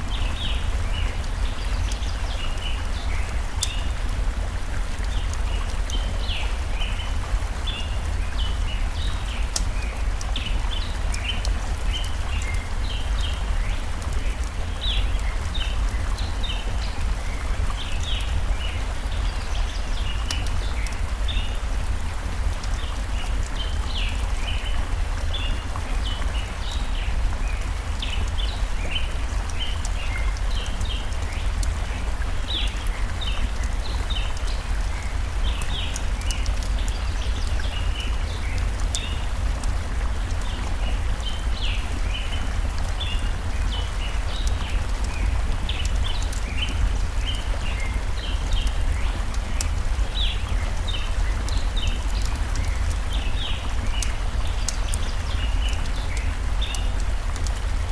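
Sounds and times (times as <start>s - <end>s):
campfire crackling: 0.0s - 57.9s
stream rushing: 0.0s - 57.9s.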